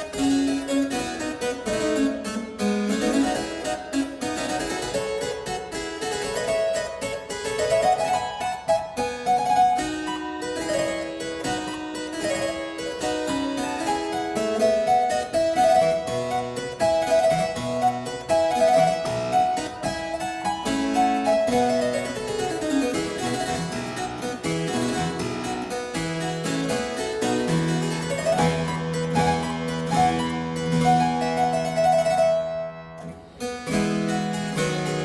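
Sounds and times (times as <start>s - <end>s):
harpsichord music: 0.0s - 35.0s.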